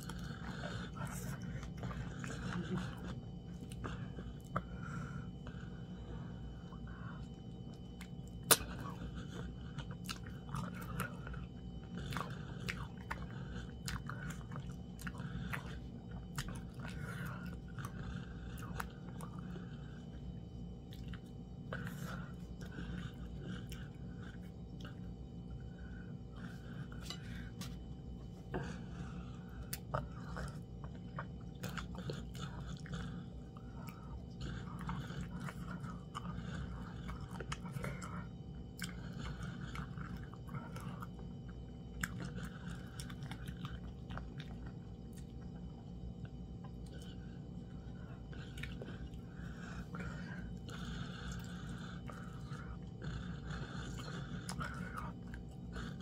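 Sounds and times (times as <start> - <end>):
close chewing with mouth clicks: 0.0 - 56.0.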